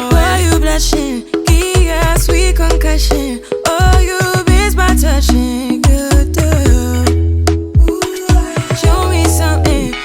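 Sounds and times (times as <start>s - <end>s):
afrobeat music with heavy bass: 0.0s - 10.0s.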